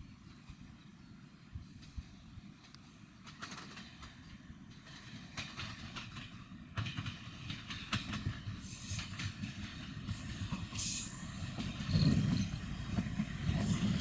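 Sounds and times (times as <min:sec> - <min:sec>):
train rumbling past: 0:00.0 - 0:14.0
wheels clicking over rail joints: 0:01.8 - 0:14.0.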